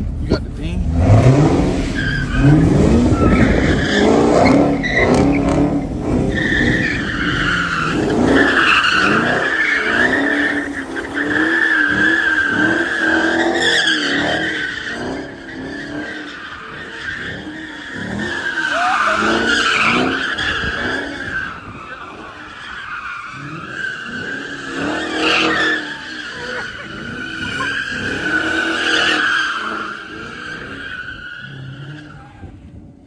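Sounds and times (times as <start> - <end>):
car engine revving: 0.0 - 32.4
tire squeal: 0.1 - 33.0.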